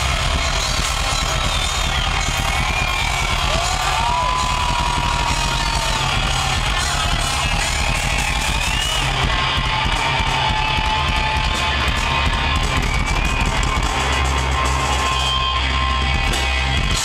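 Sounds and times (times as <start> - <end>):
heavy metal band playing live: 0.0 - 17.0.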